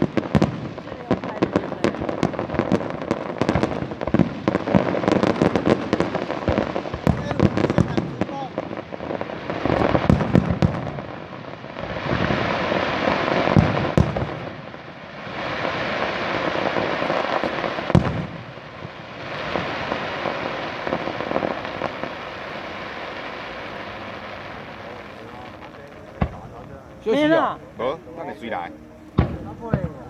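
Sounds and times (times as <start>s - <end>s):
fireworks bangs: 0.0s - 30.0s
fireworks crackling: 0.0s - 30.0s.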